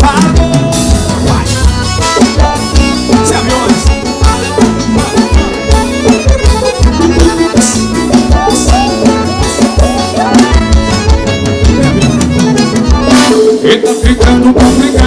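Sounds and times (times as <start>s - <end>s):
accordion melody: 0.0s - 15.0s
bass: 0.0s - 15.0s
driving drum beat: 0.0s - 15.0s.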